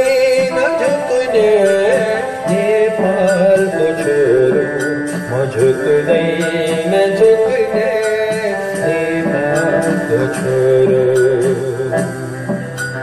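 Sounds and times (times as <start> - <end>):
electronic keyboard melody: 0.0 - 13.0
held keyboard chords: 0.0 - 13.0
light percussion: 0.0 - 13.0.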